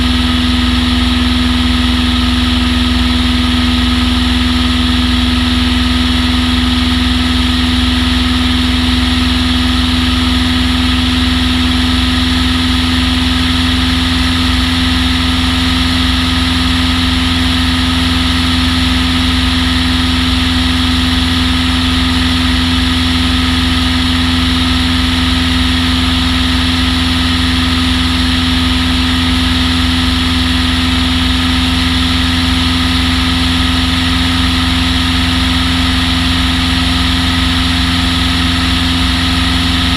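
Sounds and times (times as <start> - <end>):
aircraft propeller engine drone: 0.0 - 39.9.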